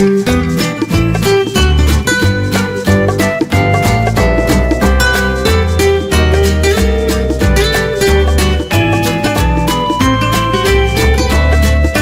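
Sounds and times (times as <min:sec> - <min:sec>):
upbeat music with plucked guitar: 0:00.0 - 0:12.0.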